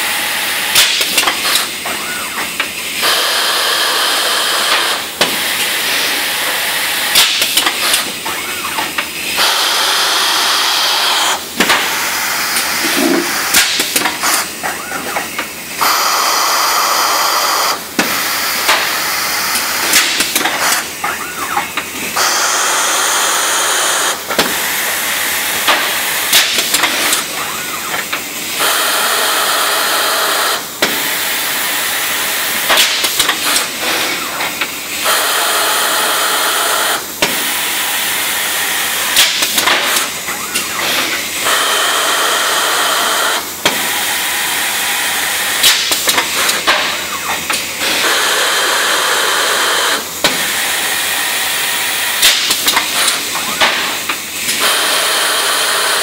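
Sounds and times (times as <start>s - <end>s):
machinery clattering and clicking: 0.7s - 3.2s, 4.6s - 10.1s, 11.2s - 16.0s, 17.9s - 22.3s, 24.3s - 35.4s, 36.8s - 56.0s.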